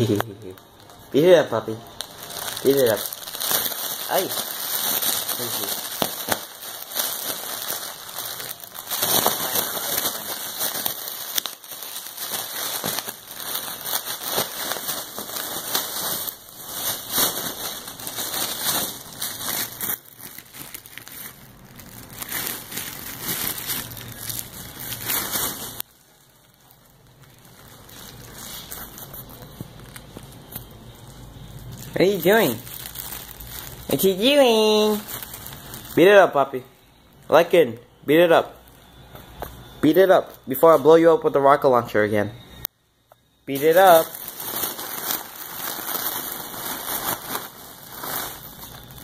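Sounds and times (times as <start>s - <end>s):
foil balloon crinkling: 0.0s - 36.4s, 43.5s - 49.0s.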